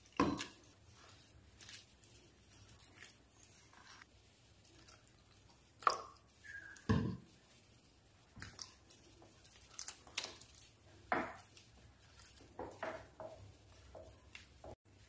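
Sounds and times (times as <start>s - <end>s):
spatula stirring thick batter: 0.0s - 15.0s.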